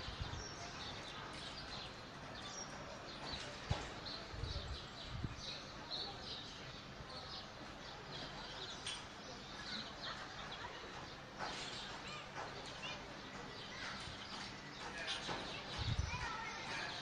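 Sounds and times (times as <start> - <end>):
outdoor background hum: 0.0 - 17.0
small birds chirping: 0.0 - 17.0.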